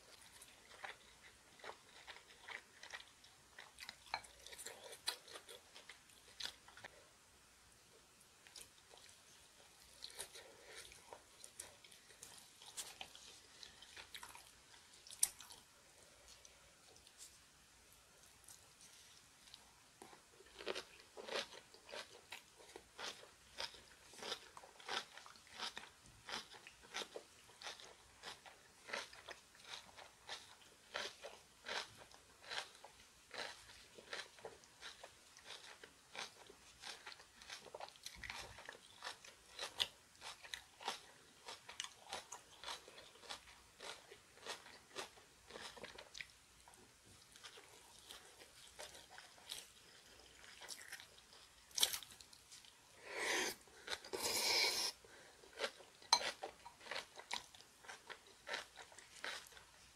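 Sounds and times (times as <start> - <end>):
person chewing crunchy food: 0.0 - 7.0, 8.4 - 17.3, 18.2 - 59.9.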